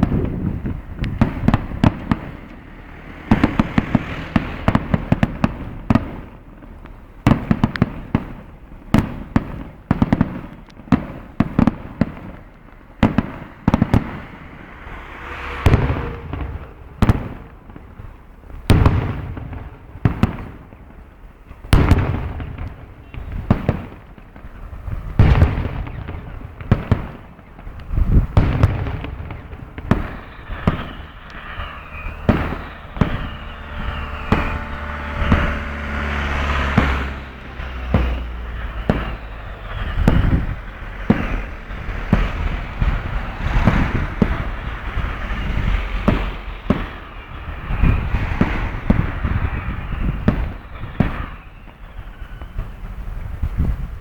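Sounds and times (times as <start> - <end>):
low rumble: 0.0 - 7.3, 10.6 - 23.4, 24.4 - 54.0
distant fireworks bangs: 0.0 - 54.0.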